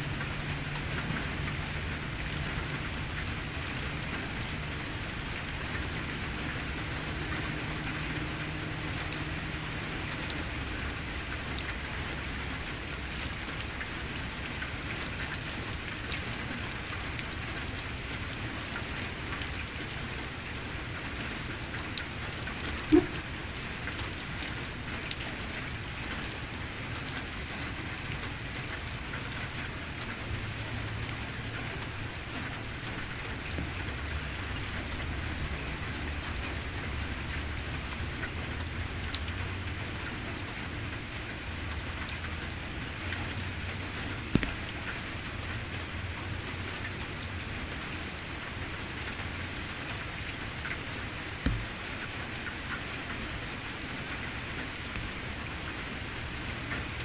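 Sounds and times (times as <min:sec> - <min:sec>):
rain falling on surfaces: 0:00.0 - 0:57.0.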